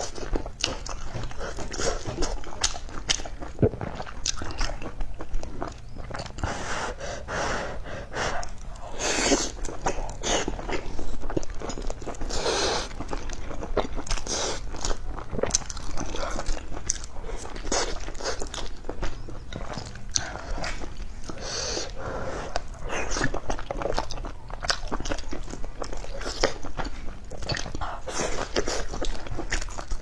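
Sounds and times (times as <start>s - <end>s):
crunchy chicken chewing: 0.0s - 30.0s.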